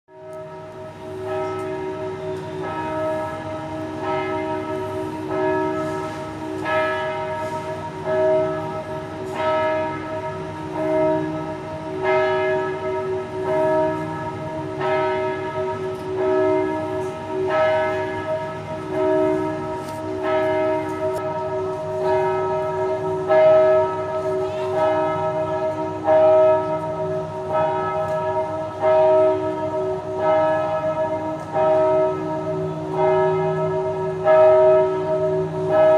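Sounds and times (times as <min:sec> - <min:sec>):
church bells ringing a peal: 0:00.1 - 0:35.9.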